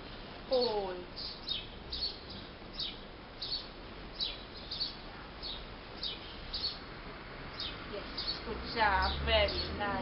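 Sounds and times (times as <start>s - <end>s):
faint background noise: 0.0s - 10.0s
small songbird chirping: 0.0s - 10.0s.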